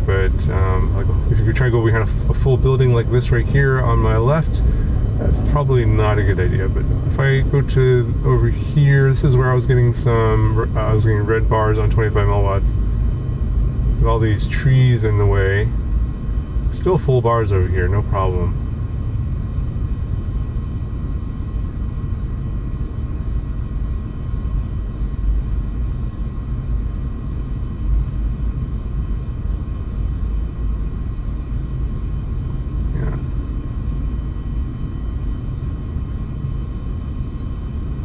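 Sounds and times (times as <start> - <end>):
faint high-pitched whines: 0.0 - 38.0
low rumble in car cabin: 0.0 - 38.0.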